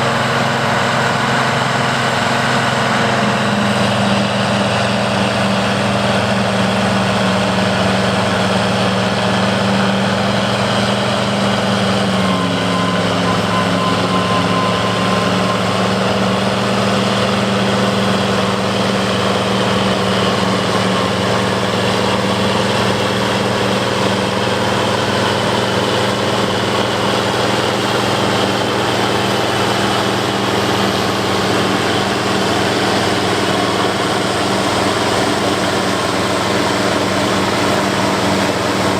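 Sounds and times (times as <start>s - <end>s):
forage harvester whirring: 0.0s - 38.9s
tractor diesel engine running: 0.0s - 38.9s.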